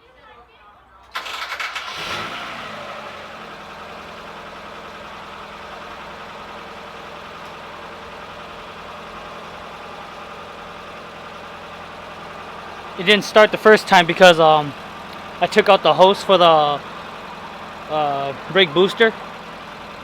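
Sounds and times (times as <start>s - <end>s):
car engine starting and idling: 1.0s - 20.0s.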